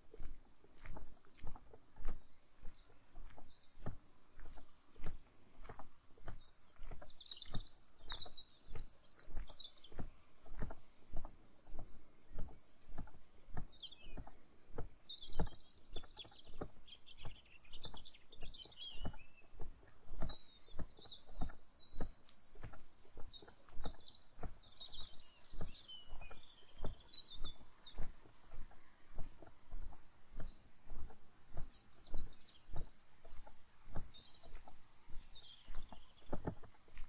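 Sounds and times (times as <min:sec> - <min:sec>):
footsteps on woodland path: 0:00.0 - 0:37.0
songbird warbling: 0:00.0 - 0:37.0.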